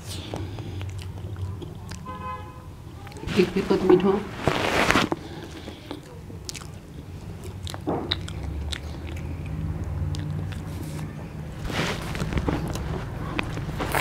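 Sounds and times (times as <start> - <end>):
people biting and chewing: 0.0 - 2.2, 4.5 - 14.0.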